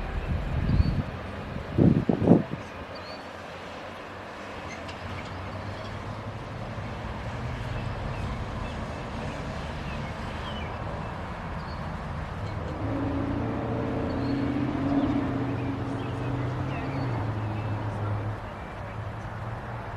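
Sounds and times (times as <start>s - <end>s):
freight train rumble: 0.0s - 19.9s.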